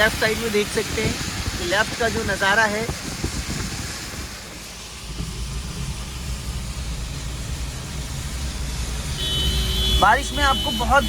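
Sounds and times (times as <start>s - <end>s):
car engine: 0.0s - 11.0s
rain hiss inside car: 0.0s - 11.0s
road rumble: 0.0s - 11.0s.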